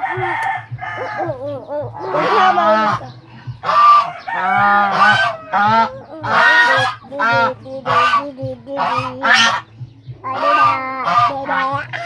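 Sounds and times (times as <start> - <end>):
goose honking: 0.0 - 12.0.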